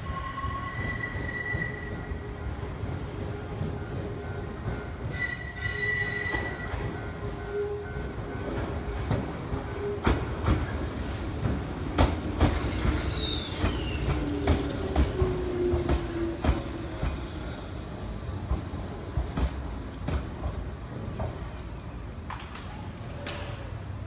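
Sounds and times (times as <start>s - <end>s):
electric train rolling: 0.0s - 24.0s.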